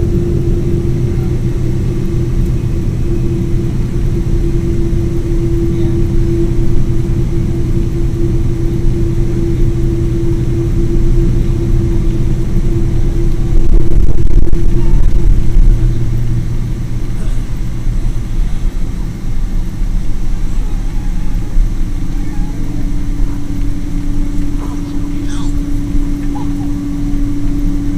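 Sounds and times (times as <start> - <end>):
jet engines running: 0.0 - 27.9.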